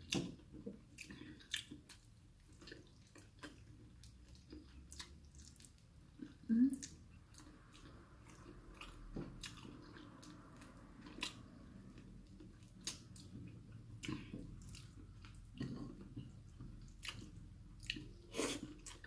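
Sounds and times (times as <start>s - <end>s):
soft chewing: 0.0s - 19.0s.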